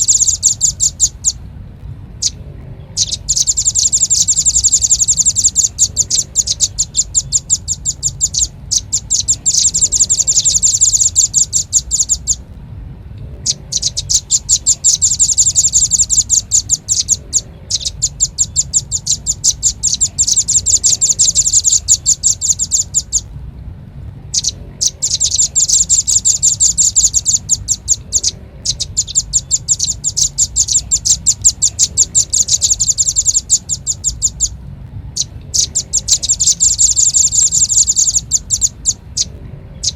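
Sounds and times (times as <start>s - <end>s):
rapid high bird chipping: 0.0s - 12.5s, 13.3s - 39.9s.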